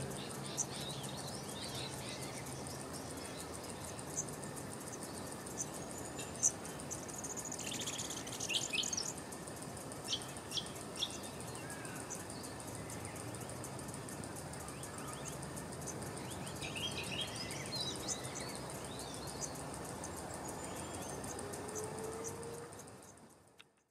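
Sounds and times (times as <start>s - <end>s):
small birds chirping: 0.0s - 9.2s, 9.8s - 23.2s
high insect trill: 0.0s - 23.9s.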